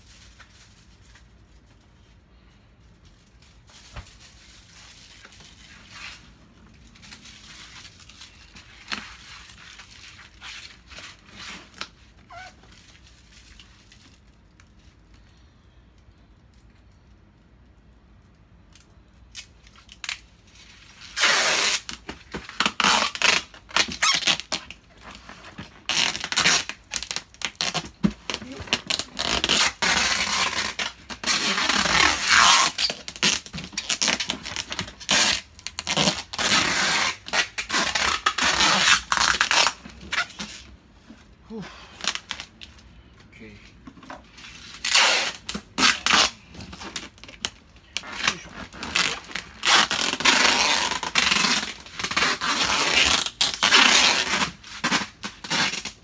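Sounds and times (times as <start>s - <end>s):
packing tape tearing: 3.4s - 14.7s, 18.7s - 40.7s, 41.5s - 42.8s, 44.3s - 56.0s.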